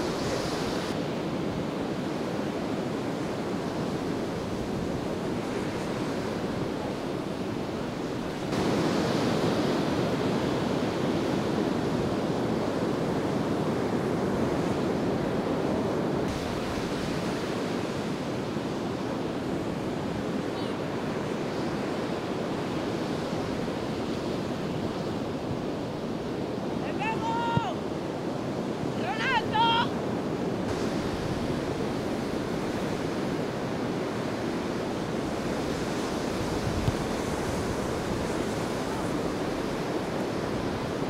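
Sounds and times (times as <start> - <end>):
waves breaking on sandy beach: 0.0 - 41.0.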